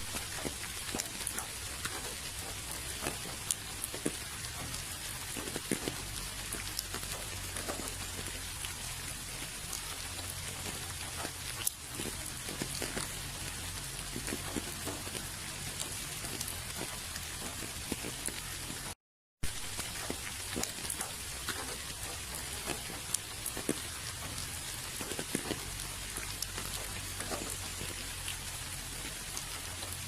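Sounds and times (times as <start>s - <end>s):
rain hissing: 0.0s - 30.0s
raindrops ticking: 0.0s - 30.0s.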